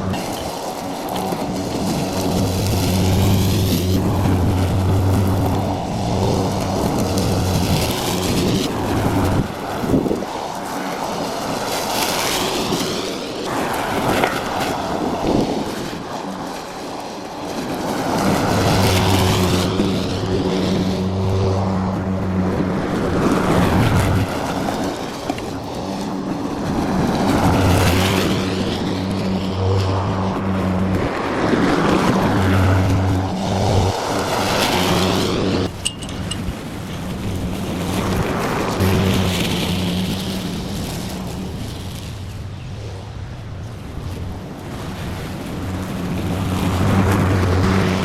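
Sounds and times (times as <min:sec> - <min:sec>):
lawn mower engine running: 0:00.0 - 0:42.5.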